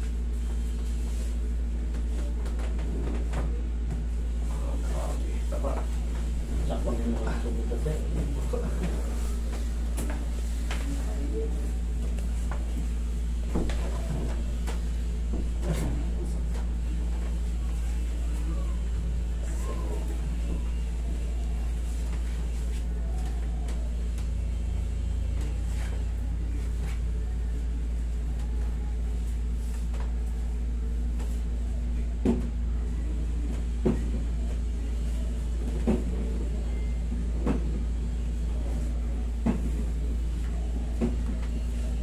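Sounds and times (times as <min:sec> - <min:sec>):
air conditioner humming: 0:00.0 - 0:42.0.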